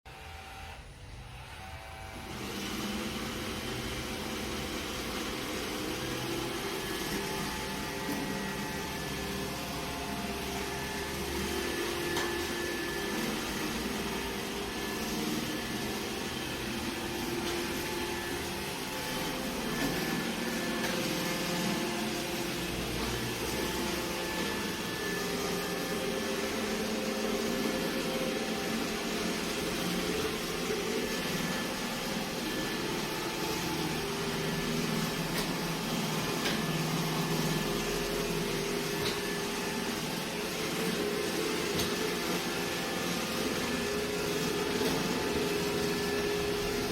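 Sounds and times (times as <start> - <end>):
robot vacuum running: 0.1 - 46.9.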